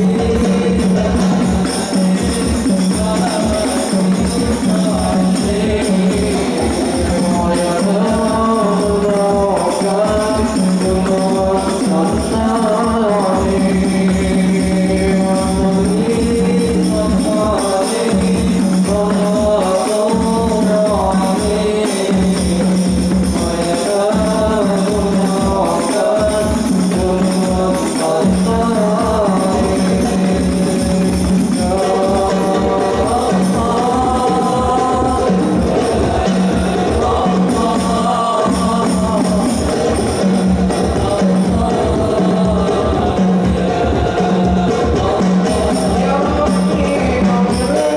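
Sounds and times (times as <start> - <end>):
men singing devotional songs: 0.0 - 47.9
rhythmic percussion: 0.0 - 47.9.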